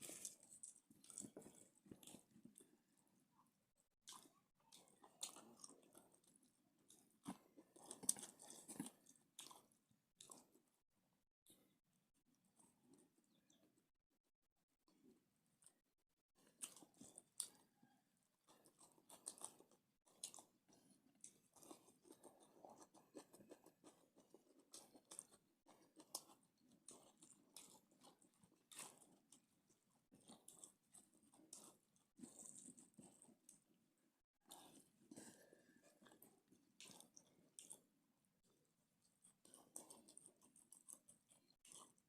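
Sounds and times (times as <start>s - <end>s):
person chewing with crunches: 0.0s - 3.0s, 4.0s - 10.7s, 16.4s - 33.7s, 34.4s - 42.0s.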